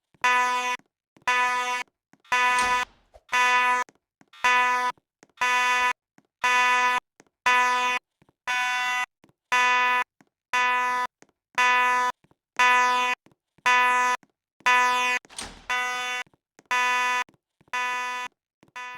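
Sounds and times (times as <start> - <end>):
fire alarm beeping: 0.2 - 3.8, 4.4 - 10.0, 10.6 - 17.2, 17.8 - 18.9.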